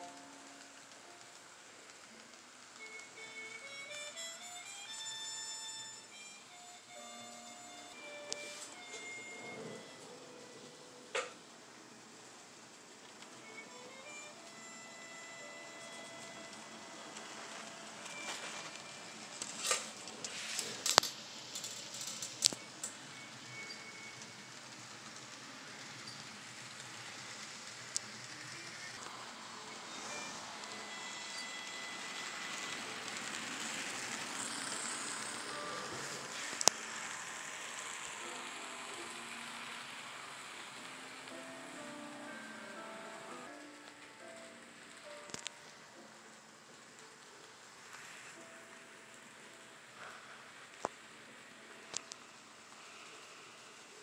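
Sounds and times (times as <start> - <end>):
model train rail noise: 0.0 - 54.0.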